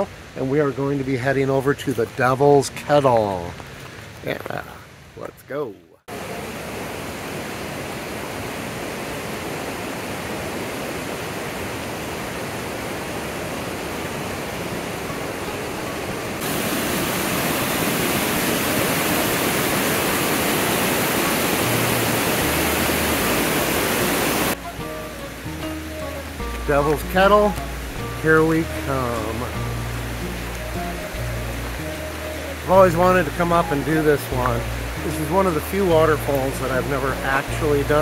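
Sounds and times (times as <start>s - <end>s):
river rapids rushing: 6.1s - 38.0s.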